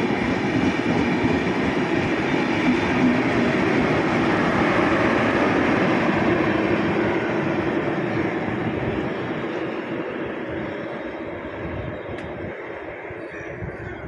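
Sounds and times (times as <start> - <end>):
train wheels rumbling: 0.0 - 13.7.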